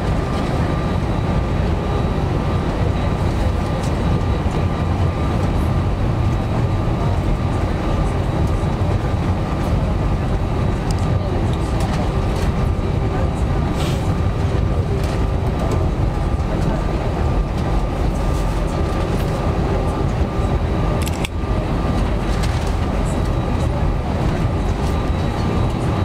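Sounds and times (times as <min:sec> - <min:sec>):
aircraft cabin rumble: 0:00.0 - 0:26.0
faint engine whine: 0:00.0 - 0:26.0.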